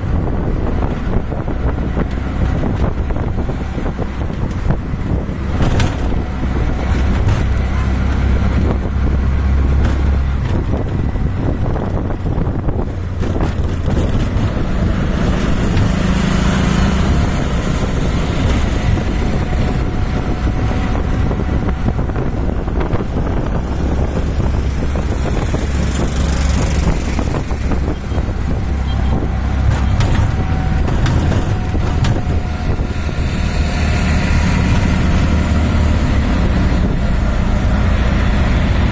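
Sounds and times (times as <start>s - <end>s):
auto rickshaw engine drone: 0.0s - 38.9s
road and wind noise: 0.0s - 38.9s.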